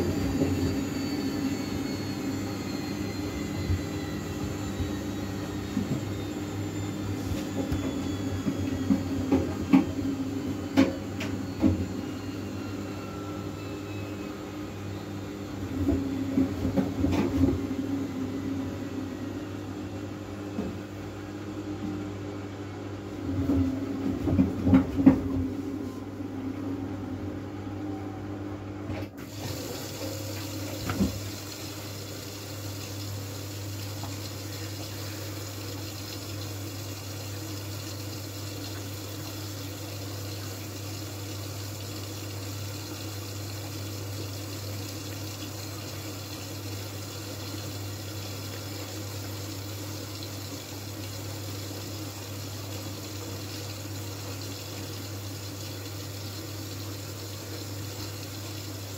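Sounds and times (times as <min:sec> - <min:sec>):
water rushing into washing machine: 0:00.0 - 0:21.1, 0:23.0 - 0:25.8, 0:28.9 - 0:58.9.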